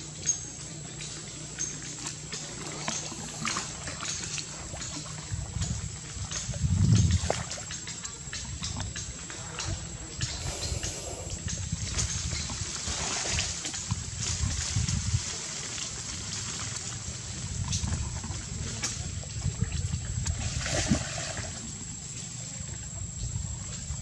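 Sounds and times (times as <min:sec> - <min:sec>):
water splashing and lapping: 0:00.0 - 0:22.8.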